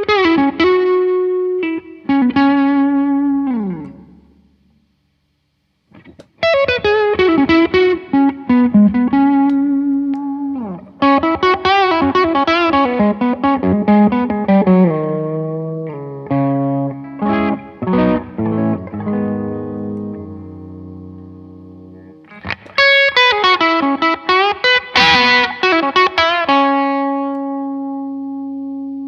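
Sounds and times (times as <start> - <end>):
electric guitar playing: 0.0 - 4.6, 5.9 - 29.0.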